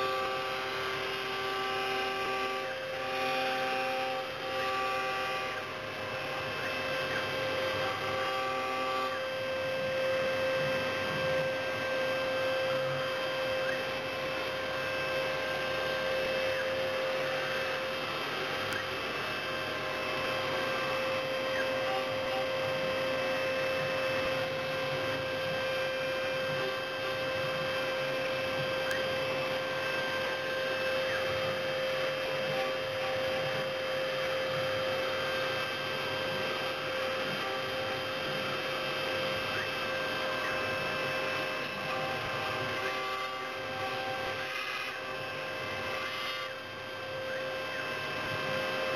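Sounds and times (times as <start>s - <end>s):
milling machine motor whine: 0.0s - 48.9s.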